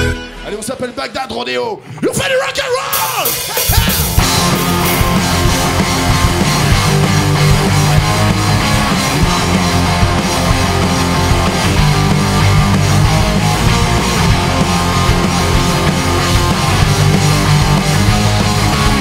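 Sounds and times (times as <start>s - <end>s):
rock band playing: 0.0s - 1.0s, 2.6s - 19.0s.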